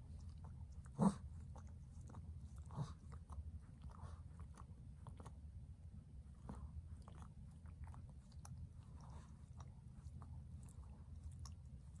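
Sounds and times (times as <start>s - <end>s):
dog licking and chewing paws: 0.0s - 12.0s
low room hum: 0.0s - 12.0s.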